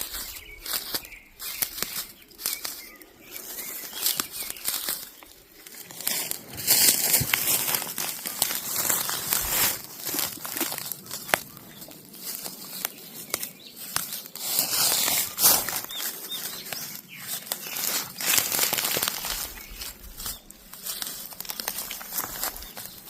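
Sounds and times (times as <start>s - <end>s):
dry leaves rustling and crackling: 0.0s - 23.0s
plant stems snapping: 0.0s - 23.0s.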